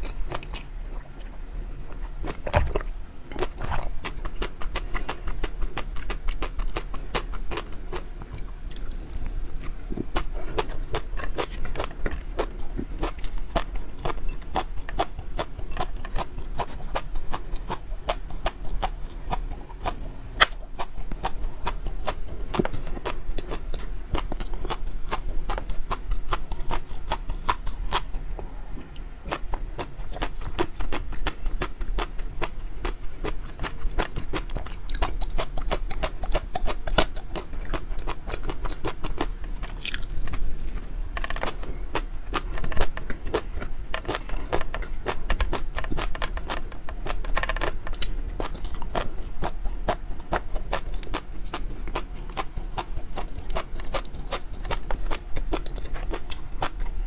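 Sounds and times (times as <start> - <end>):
close chewing with wet mouth clicks: 0.0 - 28.2, 28.8 - 57.0.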